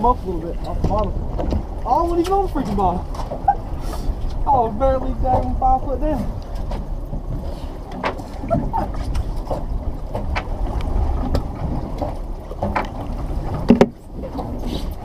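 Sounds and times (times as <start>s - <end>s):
boat engine rumble: 0.0s - 15.0s
wind on microphone: 0.0s - 15.0s.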